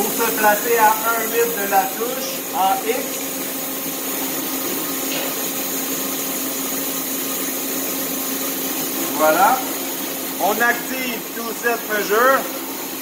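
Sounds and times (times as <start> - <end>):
lathe humming and whirring: 0.0 - 13.0.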